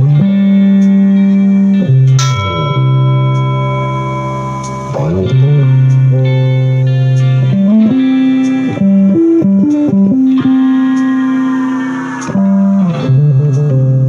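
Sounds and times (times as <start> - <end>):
electric guitar slow melody: 0.0 - 14.0.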